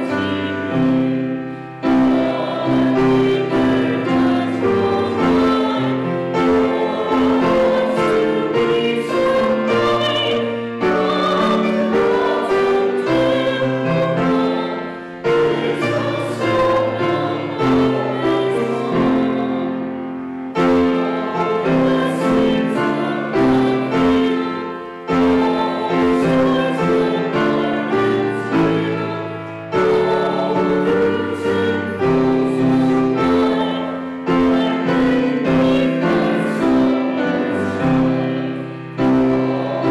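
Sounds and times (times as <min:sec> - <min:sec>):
slow grand piano piece: 0:00.0 - 0:39.9.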